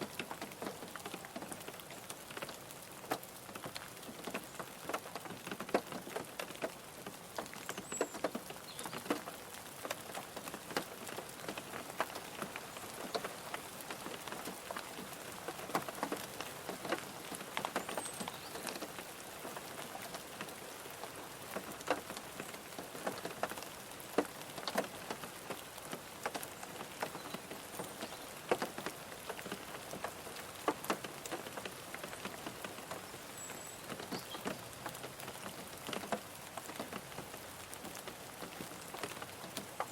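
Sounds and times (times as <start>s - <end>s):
rain pattering on a car: 0.0s - 39.9s.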